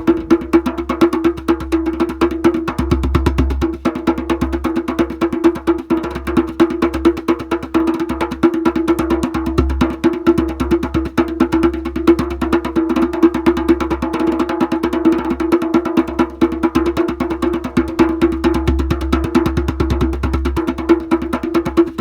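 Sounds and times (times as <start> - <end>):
large drum struck rapidly: 0.0 - 22.0.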